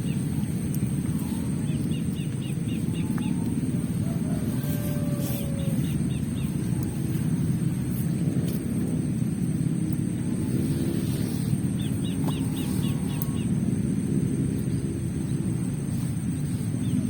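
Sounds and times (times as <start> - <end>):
loud steady low rumble: 0.0 - 17.0.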